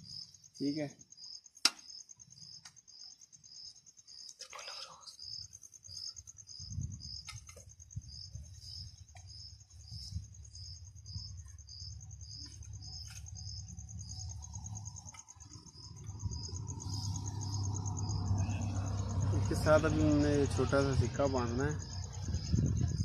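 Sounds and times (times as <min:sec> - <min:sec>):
insects trilling: 0:00.0 - 0:23.0
slow repeated insect chirp: 0:00.0 - 0:23.0.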